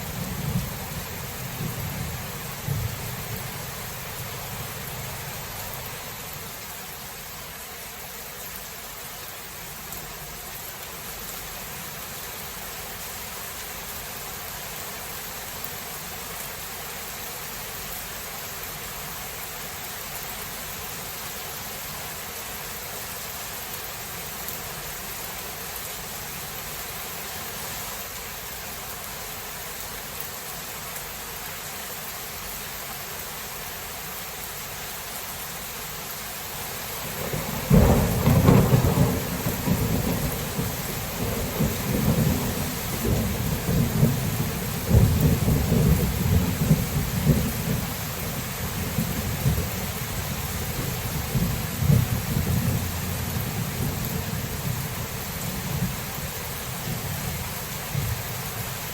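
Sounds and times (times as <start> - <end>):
rain hissing: 0.0 - 58.9.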